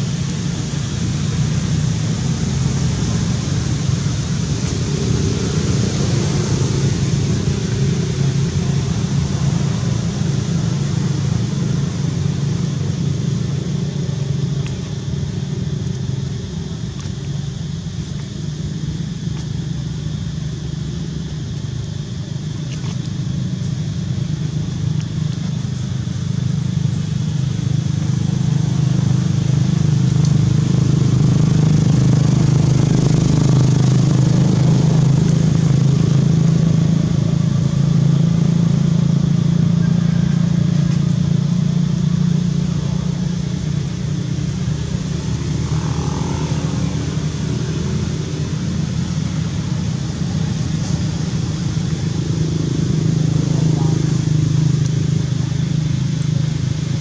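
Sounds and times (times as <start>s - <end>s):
motor drone: 0.0s - 57.0s.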